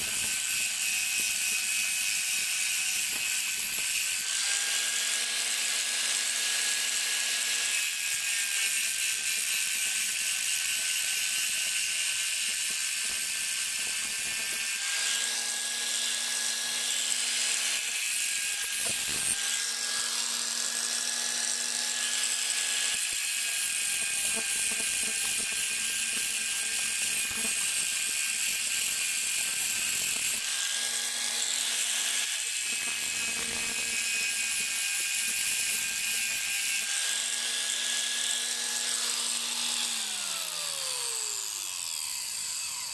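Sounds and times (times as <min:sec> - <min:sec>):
angle grinder grinding steel: 0:00.0 - 0:42.9.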